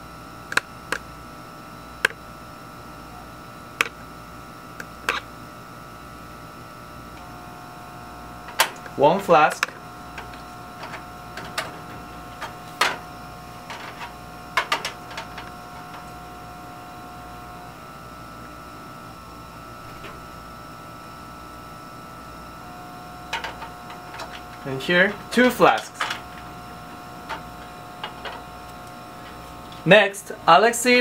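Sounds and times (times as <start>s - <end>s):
cabinet blower hum: 0.0s - 31.0s.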